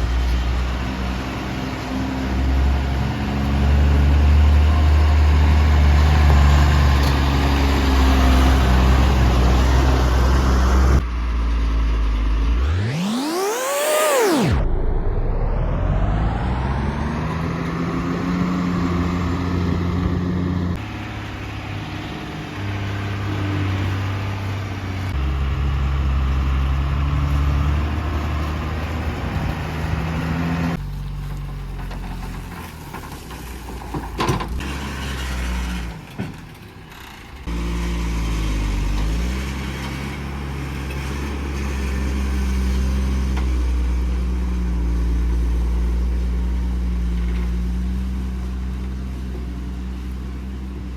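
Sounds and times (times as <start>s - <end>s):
heavy diesel engine revving: 0.0s - 31.1s, 37.4s - 50.9s.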